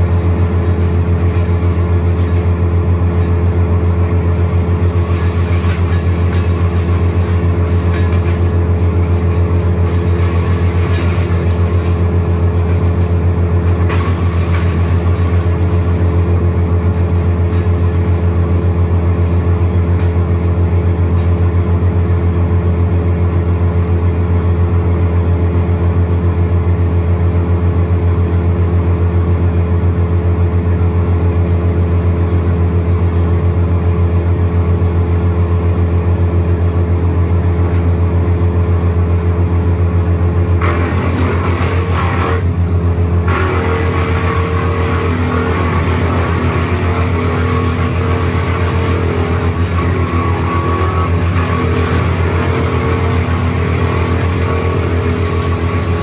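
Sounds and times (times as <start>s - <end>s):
wood chipper engine running: 0.0s - 56.0s.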